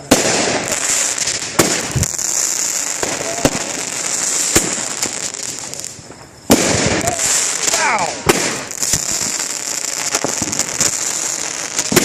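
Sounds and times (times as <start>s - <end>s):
firework bangs: 0.0s - 12.0s
fireworks crackling hiss: 0.0s - 12.0s.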